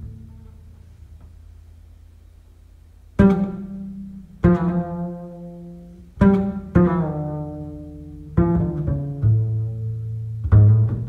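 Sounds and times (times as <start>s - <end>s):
double bass plucked notes: 0.0s - 11.0s.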